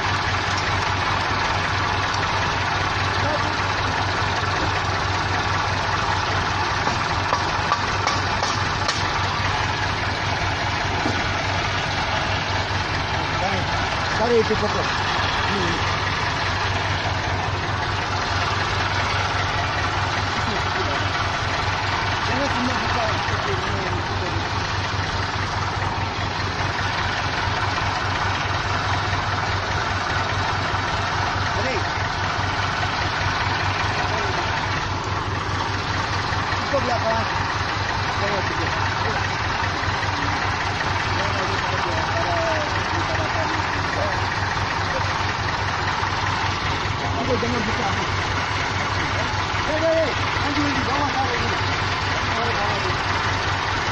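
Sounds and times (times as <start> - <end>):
tractor engine idling: 0.0 - 53.9.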